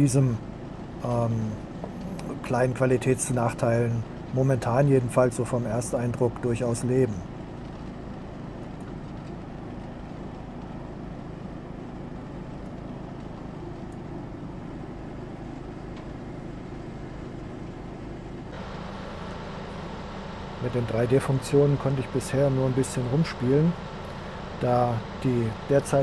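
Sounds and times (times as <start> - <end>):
ride-on mower engine running: 0.0 - 26.0.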